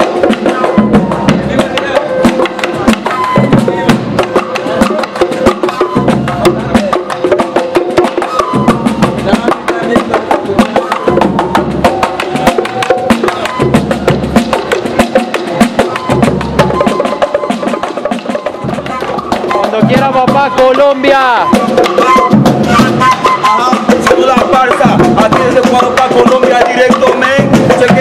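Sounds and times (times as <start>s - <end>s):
wind instrument long notes: 0.0s - 27.9s
bass drum: 0.0s - 28.0s
bongos and drums: 0.0s - 28.0s.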